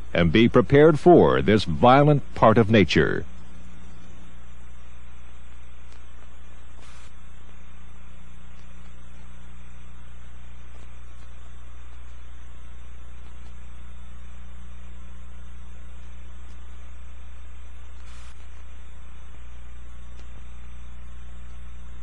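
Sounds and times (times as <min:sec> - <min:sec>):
low electrical hum: 0:00.0 - 0:22.0
tape hiss: 0:00.0 - 0:22.0.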